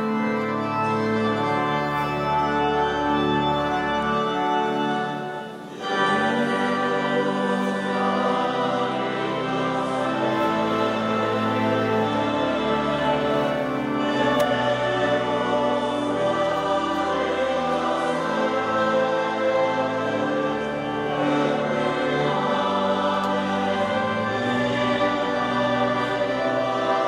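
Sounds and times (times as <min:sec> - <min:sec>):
choir singing sustained notes: 0:00.0 - 0:27.0.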